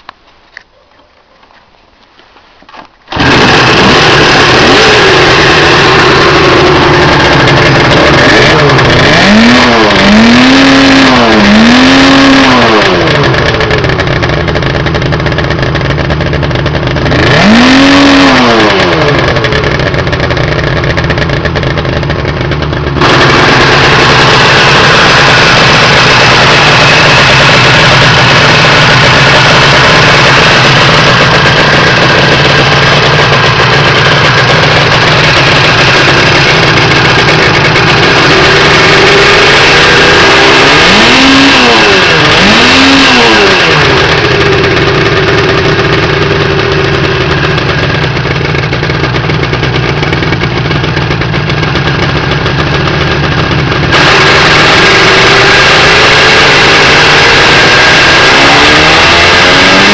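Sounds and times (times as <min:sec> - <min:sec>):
motorcycle engine revving: 0:03.1 - 0:59.9.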